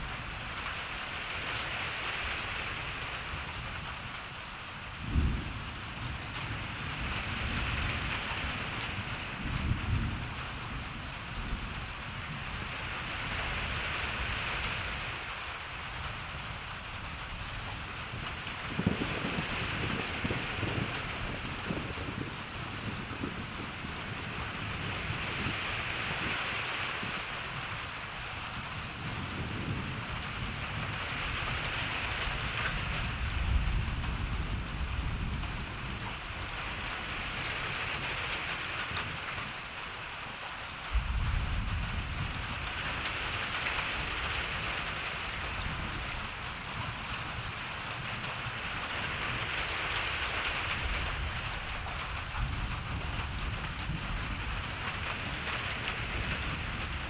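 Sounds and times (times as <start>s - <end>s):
steady rain falling: 0.0s - 57.0s
thunder rumbling: 4.9s - 39.7s, 40.8s - 57.0s.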